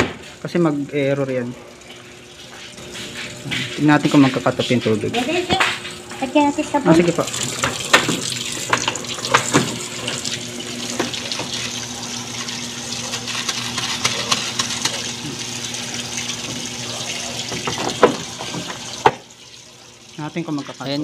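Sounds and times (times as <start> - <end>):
water rushing into washing machine: 0.0 - 21.0.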